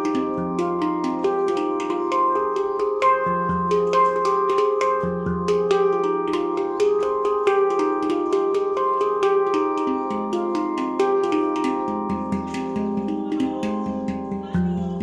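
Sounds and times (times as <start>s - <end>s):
deep handpan bass note: 0.0s - 15.0s
handpan notes ringing: 0.0s - 15.0s.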